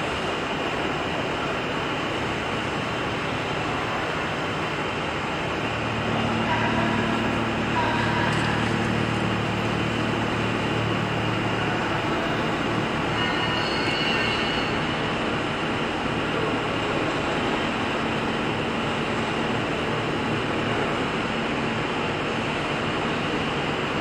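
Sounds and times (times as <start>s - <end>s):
machinery rushing noise: 0.0s - 19.6s
low machinery hum: 0.0s - 24.0s.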